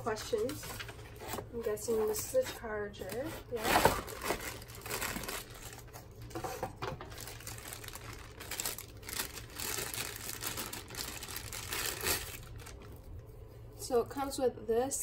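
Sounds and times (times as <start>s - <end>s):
plastic bags crinkling: 0.0s - 13.2s.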